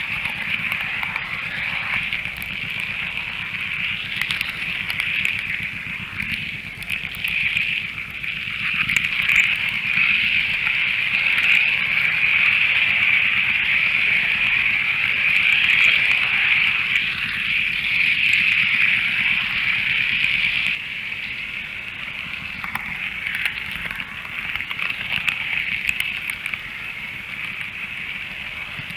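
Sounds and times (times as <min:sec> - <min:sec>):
model train whirring: 0:00.0 - 0:28.9
wheels clicking on rails: 0:00.0 - 0:28.9.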